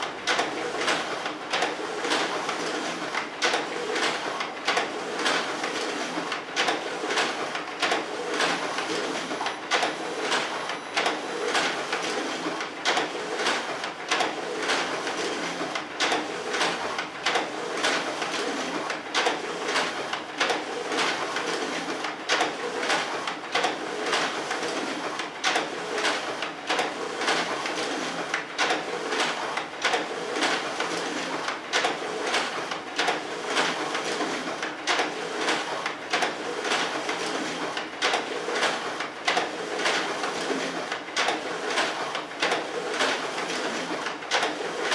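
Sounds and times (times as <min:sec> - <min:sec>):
copier document feeder whirring: 0:00.0 - 0:44.9
paper feeding clicks and swishes: 0:00.0 - 0:44.9.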